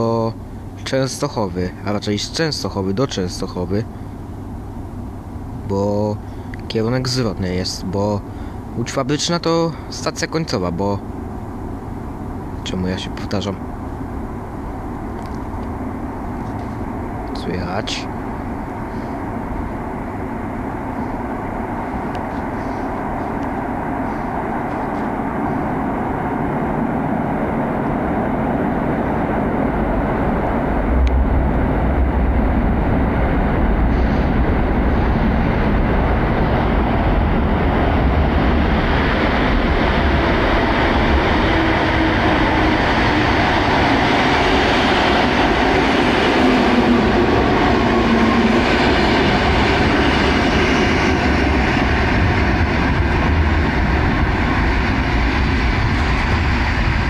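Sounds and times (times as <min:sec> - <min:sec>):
faint whining tones: 0:00.0 - 0:57.0
train rumbling: 0:00.0 - 0:57.0.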